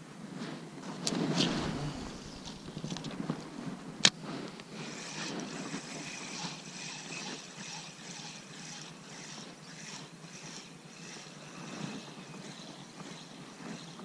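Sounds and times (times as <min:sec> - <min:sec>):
fishing reel whirring: 0:01.3 - 0:03.5, 0:04.7 - 0:14.0.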